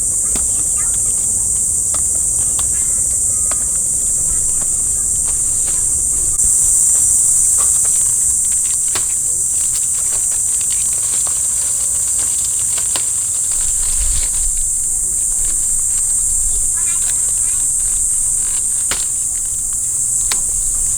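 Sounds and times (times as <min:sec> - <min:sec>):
high-pitched insect chorus: 0:00.0 - 0:20.9.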